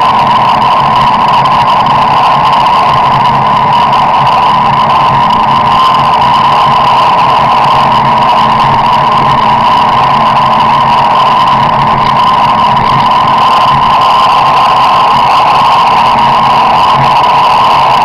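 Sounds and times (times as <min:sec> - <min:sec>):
car engine and road noise drone: 0:00.0 - 0:18.0.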